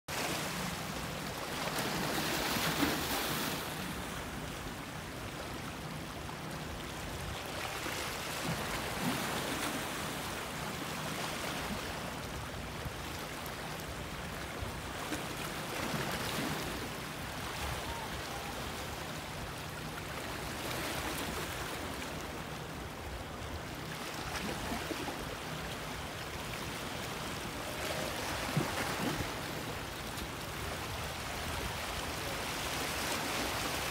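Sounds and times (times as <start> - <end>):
waves lapping against rocks: 0.1 - 22.5, 23.4 - 33.9.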